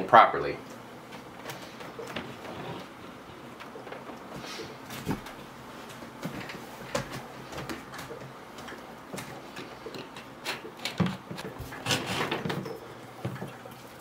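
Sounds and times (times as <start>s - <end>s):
cables rustling and scraping: 1.0s - 12.7s.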